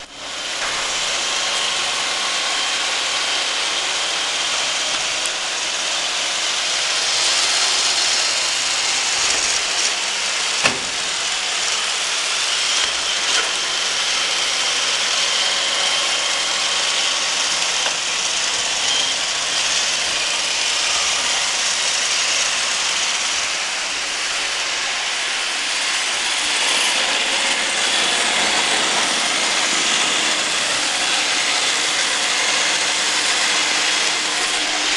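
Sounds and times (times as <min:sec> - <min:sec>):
robot vacuum cleaner whirring: 0:00.0 - 0:34.9.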